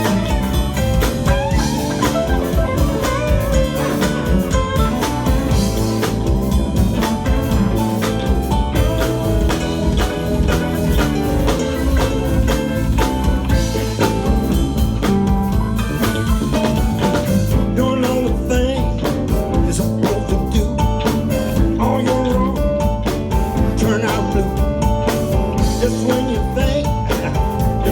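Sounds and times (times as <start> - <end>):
blues band playing: 0.0 - 27.9
drum kit: 0.0 - 27.9
guitar: 0.0 - 27.9.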